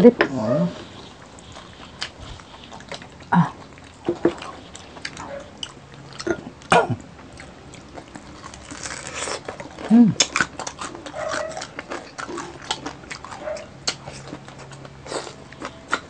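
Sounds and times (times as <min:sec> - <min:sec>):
biting and chewing crispy food: 0:00.3 - 0:16.0.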